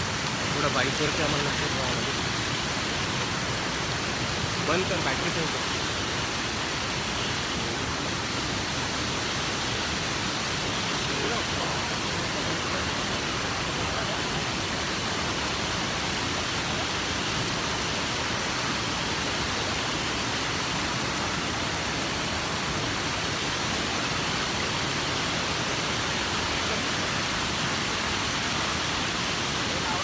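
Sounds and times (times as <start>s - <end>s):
water rushing over boulders: 0.0s - 30.0s.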